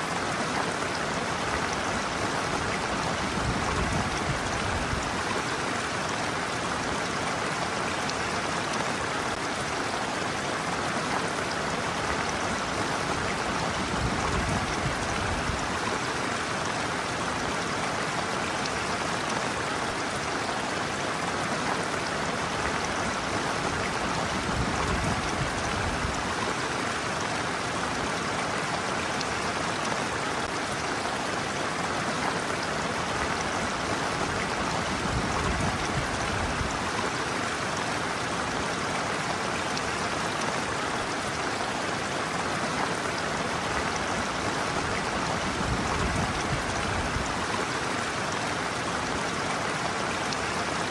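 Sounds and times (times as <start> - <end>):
shallow stream rushing and burbling: 0.0 - 50.9.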